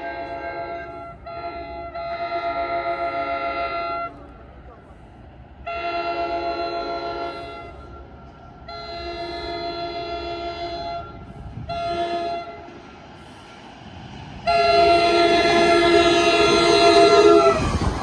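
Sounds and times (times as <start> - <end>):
train air horn blasts: 0.0 - 4.4, 5.6 - 12.9, 14.4 - 18.0.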